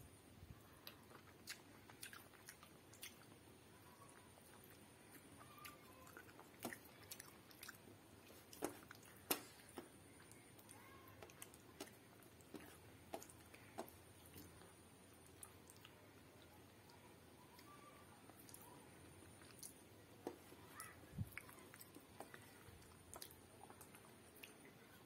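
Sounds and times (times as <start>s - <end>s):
person chewing: 0.7s - 3.4s, 4.2s - 16.0s, 18.3s - 24.7s.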